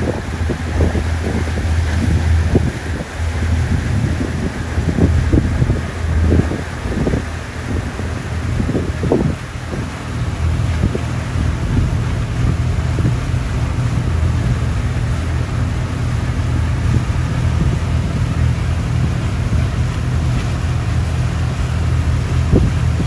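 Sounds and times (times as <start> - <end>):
boat engine running: 0.0 - 23.0
wind buffeting microphone: 0.0 - 23.0.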